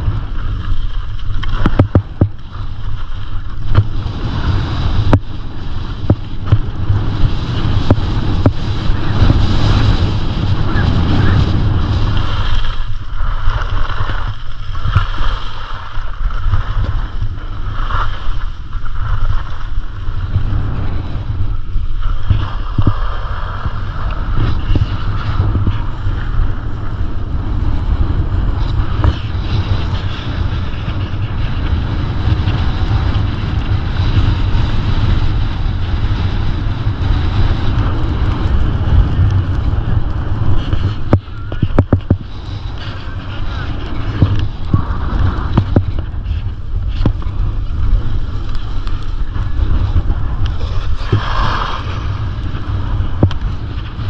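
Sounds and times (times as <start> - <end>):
wind rumbling on microphone: 0.0 - 54.0.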